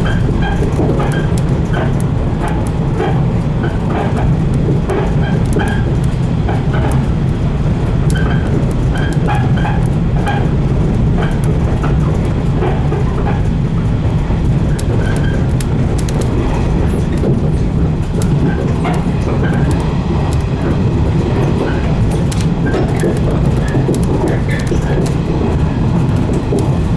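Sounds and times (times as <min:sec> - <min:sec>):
train low rumble: 0:00.0 - 0:26.9.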